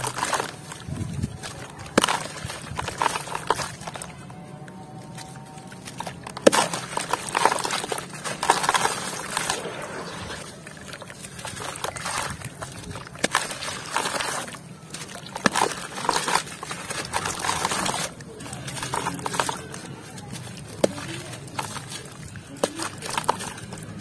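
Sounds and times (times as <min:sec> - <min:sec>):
wet crunching under water: 0:00.0 - 0:24.0.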